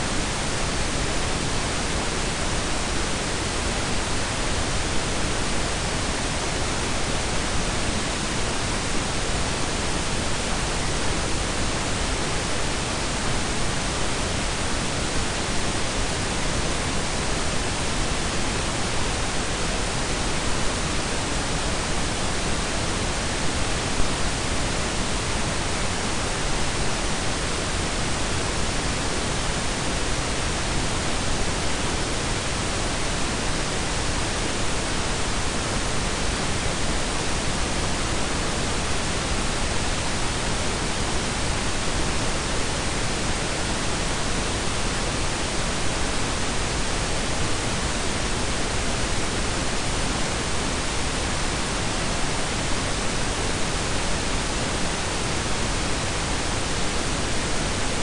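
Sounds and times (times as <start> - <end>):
steady low hiss: 0.0 - 58.0.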